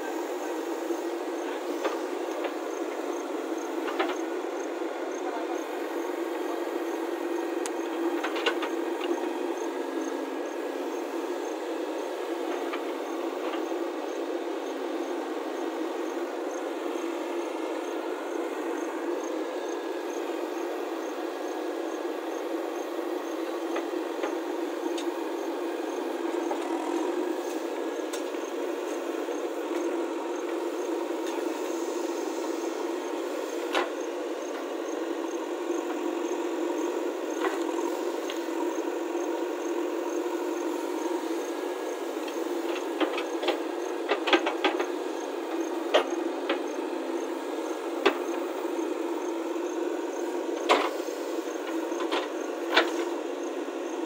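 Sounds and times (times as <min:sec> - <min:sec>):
diesel engine under load: 0:00.0 - 0:53.8.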